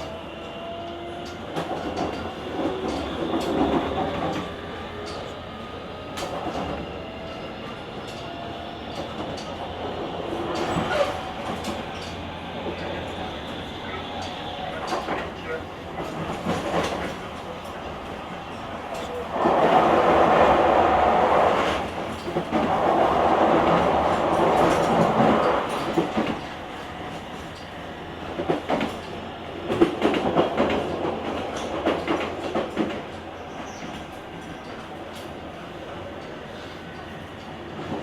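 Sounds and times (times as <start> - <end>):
train running rumble: 0.0 - 38.0.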